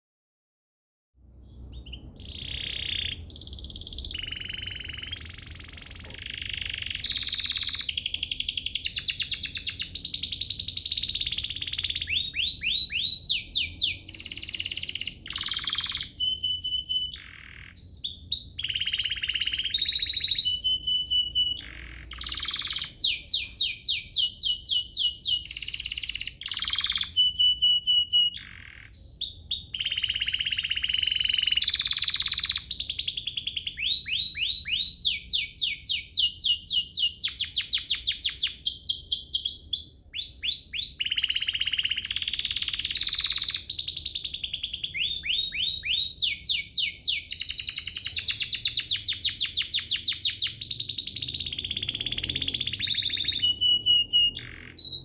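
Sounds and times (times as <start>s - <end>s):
canary singing: 1.3s - 55.0s.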